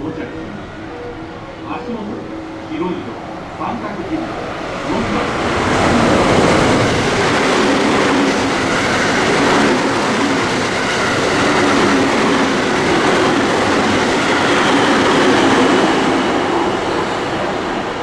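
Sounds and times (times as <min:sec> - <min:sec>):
electric train wheels rumbling: 0:00.0 - 0:18.0.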